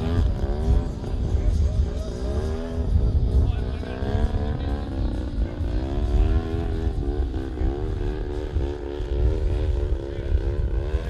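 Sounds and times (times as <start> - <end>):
heavy low rumble: 0.0 - 11.0
model plane engine: 0.0 - 11.0.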